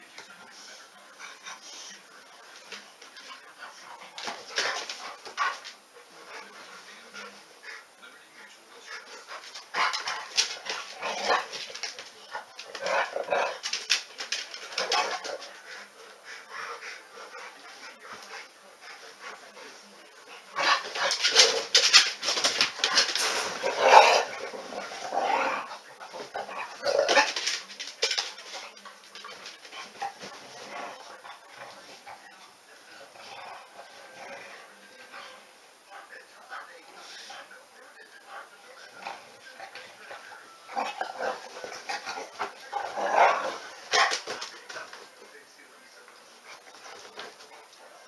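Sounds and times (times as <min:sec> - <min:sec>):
dogs play-wrestling: 0:00.0 - 0:48.0.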